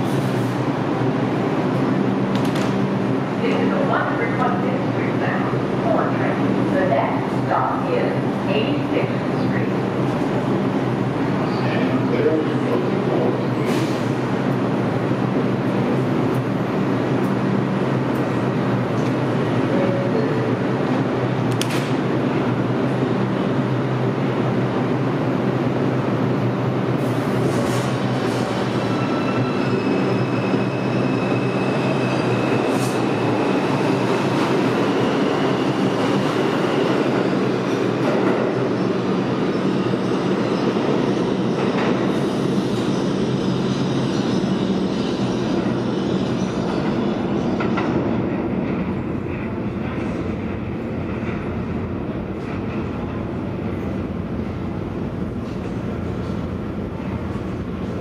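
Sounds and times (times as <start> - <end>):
subway train rumble and hum: 0.0 - 58.0.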